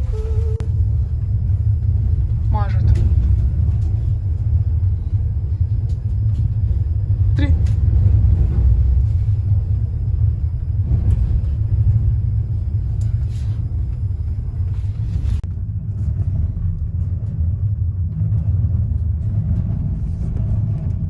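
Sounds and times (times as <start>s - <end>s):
train rumbling inside carriage: 0.0s - 21.0s.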